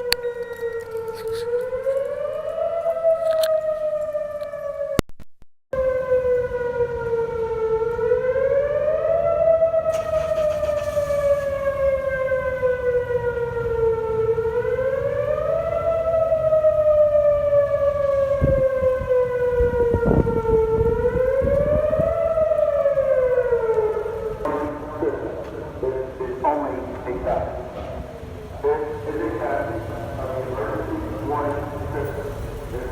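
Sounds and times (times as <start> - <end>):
warning siren wailing: 0.0 - 5.0, 5.8 - 32.9.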